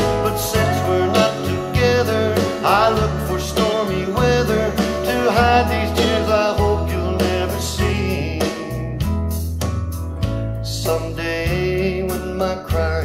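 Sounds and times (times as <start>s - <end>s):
instrumental music over loudspeakers: 0.0s - 13.0s.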